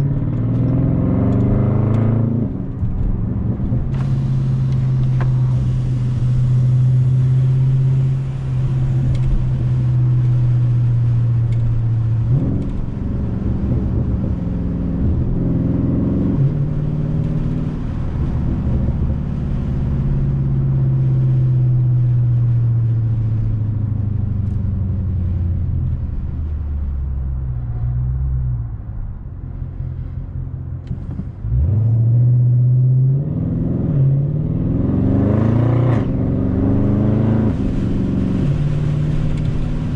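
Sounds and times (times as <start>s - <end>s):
car engine and exhaust: 0.0s - 39.9s.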